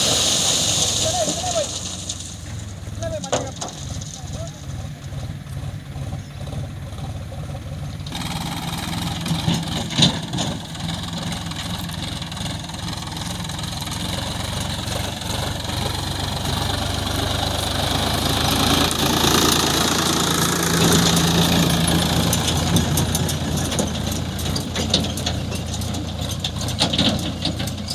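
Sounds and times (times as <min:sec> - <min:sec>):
heavy diesel machinery engine: 0:00.0 - 0:27.9.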